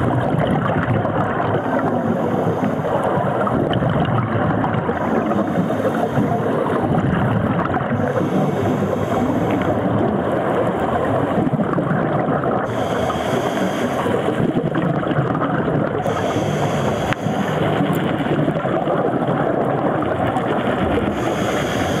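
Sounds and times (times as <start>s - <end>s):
muffled underwater water rushing: 0.0s - 22.0s.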